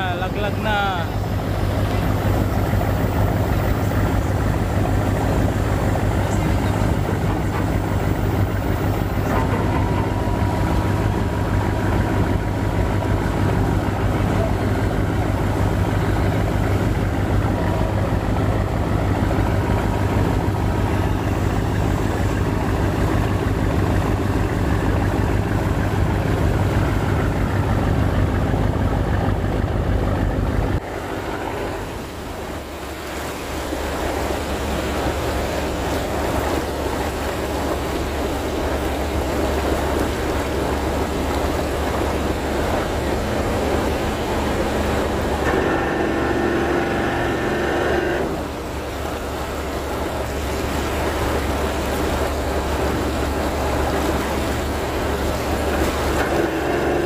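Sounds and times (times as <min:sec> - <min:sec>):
ship's engine droning: 0:00.0 - 0:57.0
water rushing along hull: 0:00.0 - 0:57.0.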